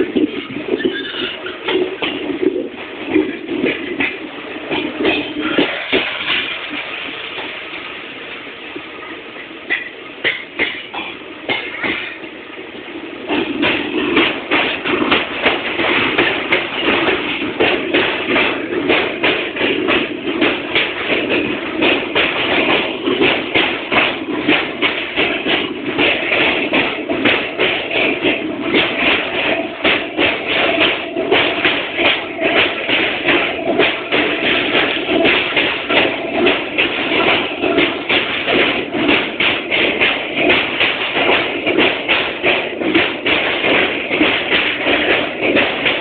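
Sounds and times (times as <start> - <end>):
train wheels clattering on bridge: 0.0 - 46.0.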